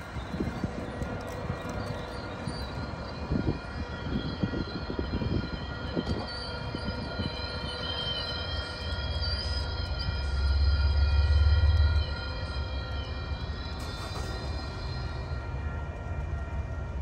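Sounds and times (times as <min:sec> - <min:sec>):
high wavering whine: 0:00.0 - 0:17.0
train rumble: 0:00.0 - 0:17.0.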